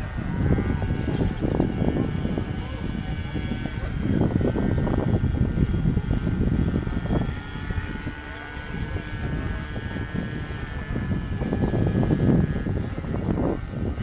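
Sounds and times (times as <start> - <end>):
model airplane propeller drone: 0.0 - 14.0
wind on microphone: 0.0 - 14.0.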